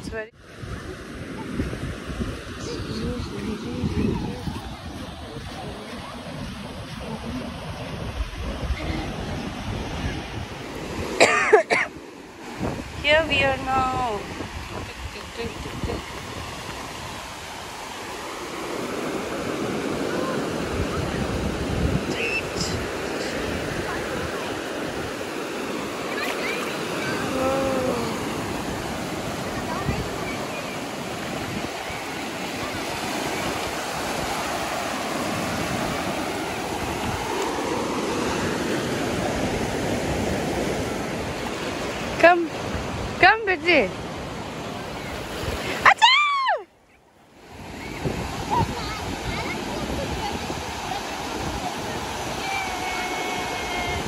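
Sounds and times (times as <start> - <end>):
surf washing up shore: 0.0 - 54.0.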